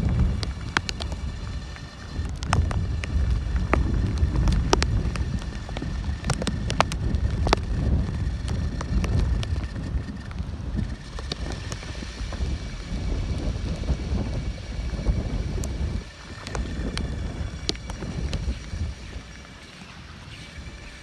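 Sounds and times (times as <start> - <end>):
small ticks: 0.0 - 21.0
wind buffeting microphone: 0.0 - 21.0.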